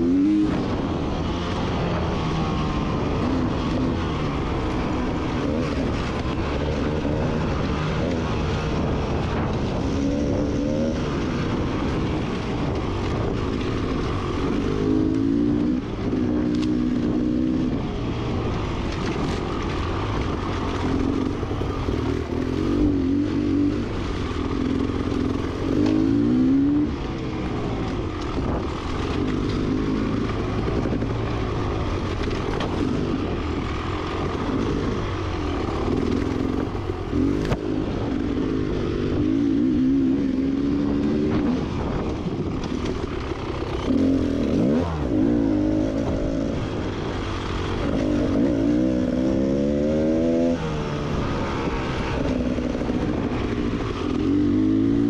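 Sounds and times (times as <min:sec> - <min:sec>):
dirt bike engine revving: 0:00.0 - 0:18.0, 0:18.7 - 0:27.1, 0:27.7 - 0:55.0.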